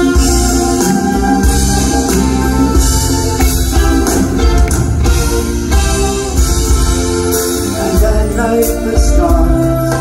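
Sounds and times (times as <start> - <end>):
drums: 0.0 - 10.0.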